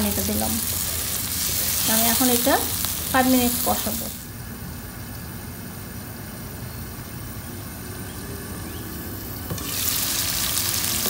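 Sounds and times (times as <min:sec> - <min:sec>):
sizzling in a frying pan: 0:00.0 - 0:08.3, 0:09.3 - 0:11.0.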